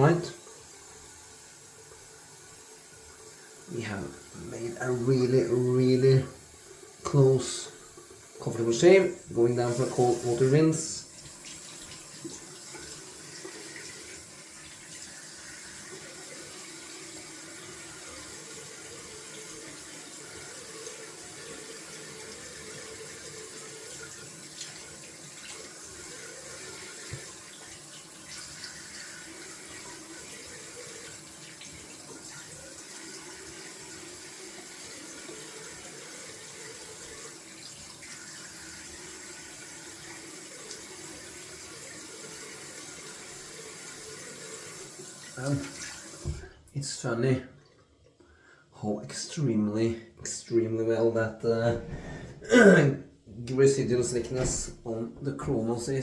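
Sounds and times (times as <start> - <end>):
sink tap running: 0.0 - 46.7, 51.6 - 52.7, 53.5 - 56.0.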